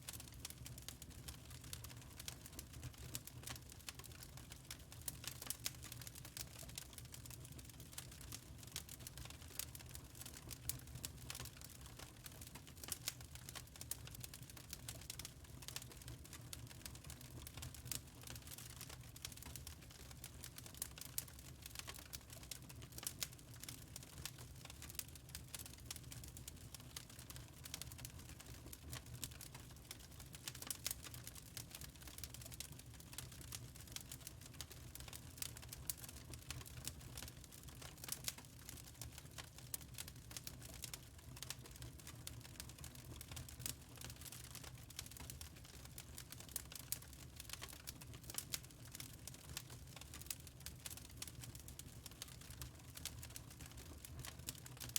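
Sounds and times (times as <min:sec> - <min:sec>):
wood fire crackling: 0:00.1 - 0:54.9.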